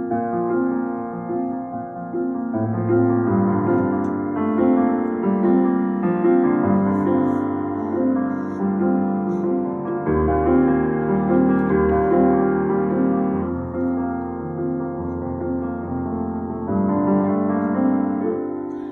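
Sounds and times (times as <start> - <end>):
piano ballad accompaniment: 0.0 - 18.9.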